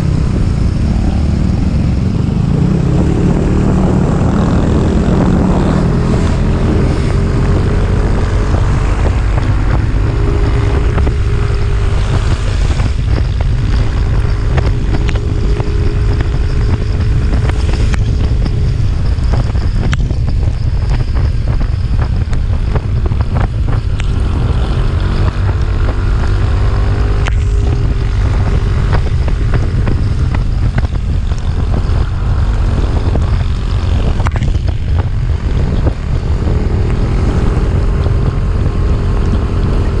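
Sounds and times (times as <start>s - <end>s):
motorcycle engine running: 0.0s - 40.0s
wind buffeting microphone: 0.0s - 40.0s.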